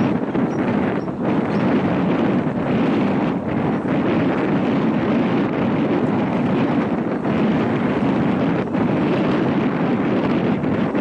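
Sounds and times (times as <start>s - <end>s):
wind rushing on microphone: 0.0s - 11.0s.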